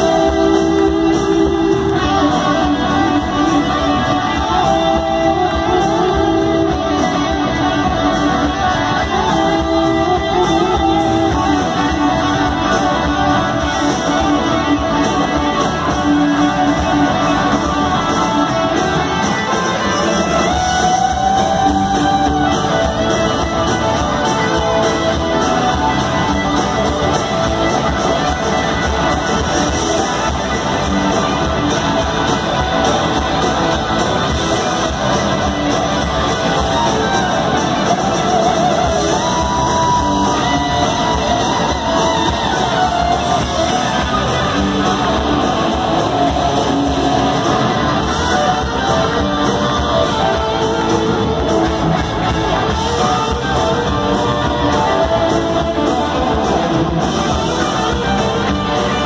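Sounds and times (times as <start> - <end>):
bass guitar: 0.0 - 59.0
drums: 0.0 - 59.0
electric guitars playing lead: 0.0 - 59.0.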